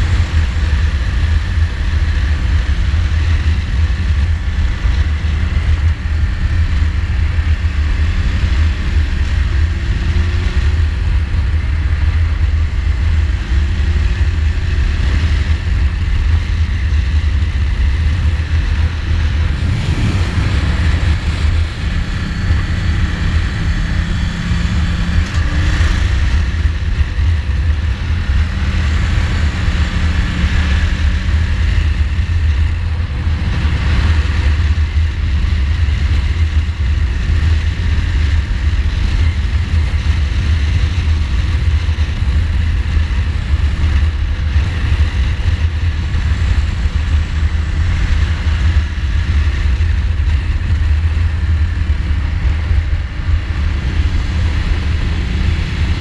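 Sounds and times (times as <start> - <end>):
motorcycle engine revving: 0.0 - 56.0
wind rumble on microphone: 0.0 - 56.0.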